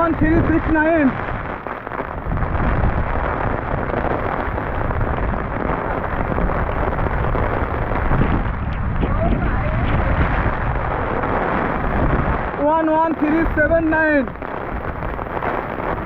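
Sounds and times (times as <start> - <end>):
heavy rain: 0.0 - 16.0
wind buffeting microphone: 0.0 - 16.0.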